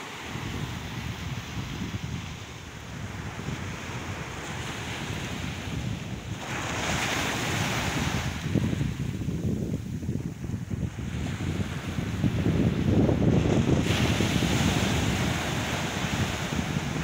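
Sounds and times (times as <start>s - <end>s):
small waves breaking on sand: 0.0s - 17.0s
wind buffeting microphone: 0.0s - 17.0s.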